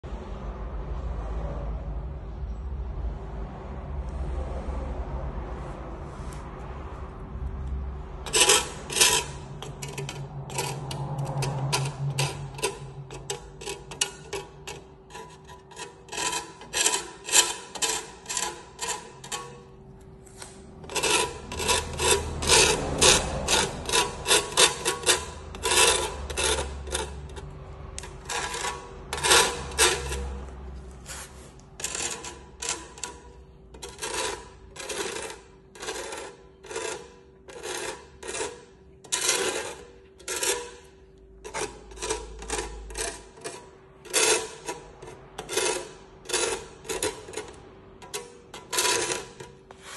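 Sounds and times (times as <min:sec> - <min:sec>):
trowel scraping floor: 0:08.3 - 0:49.9.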